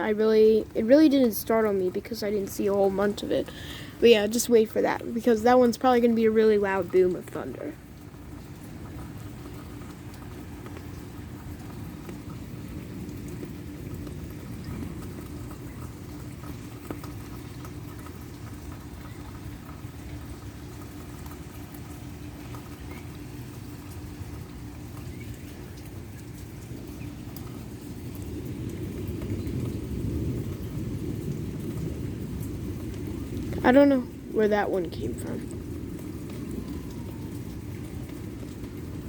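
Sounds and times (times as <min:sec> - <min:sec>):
faint steady hum: 0:00.0 - 0:39.0
light rain pattering: 0:00.0 - 0:39.0.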